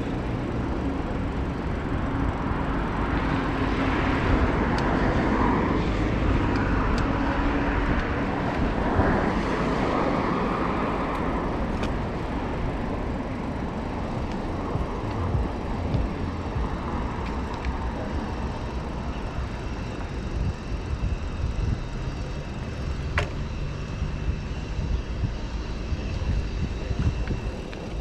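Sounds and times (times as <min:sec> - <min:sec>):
street traffic passing: 0:00.0 - 0:28.0
wind rumbling on microphone: 0:00.0 - 0:28.0.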